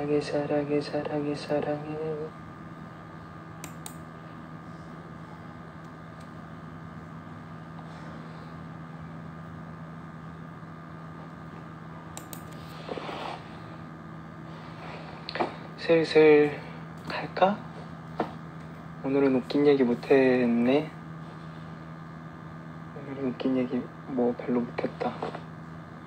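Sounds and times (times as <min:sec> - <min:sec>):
room hum with low drone: 0:00.0 - 0:26.0.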